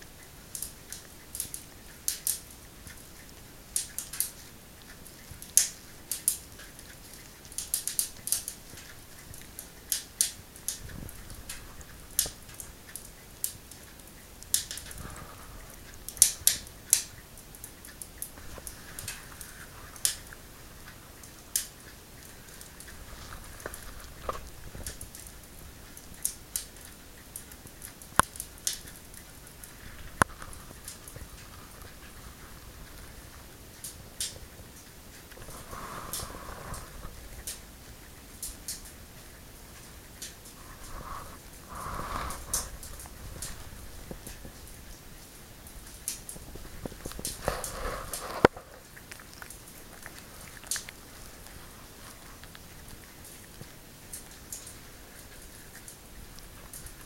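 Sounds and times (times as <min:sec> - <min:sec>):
cat licking clicks: 0:00.2 - 0:39.4, 0:45.8 - 0:57.0.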